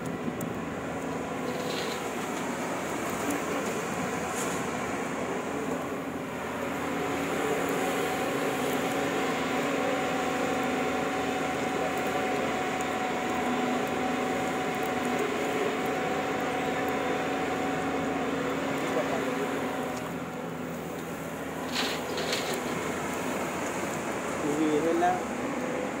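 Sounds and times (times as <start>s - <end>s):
heavy machinery engine droning: 0.0s - 26.0s.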